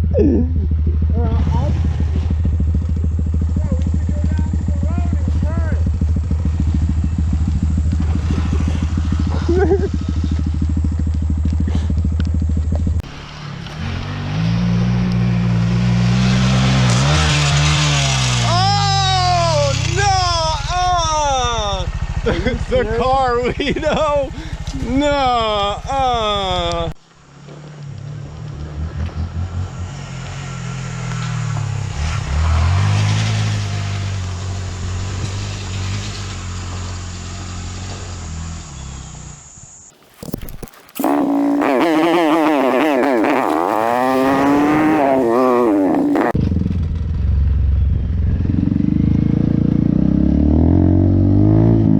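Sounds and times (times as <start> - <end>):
motorcycle engine running: 0.0 - 31.9, 40.2 - 51.9.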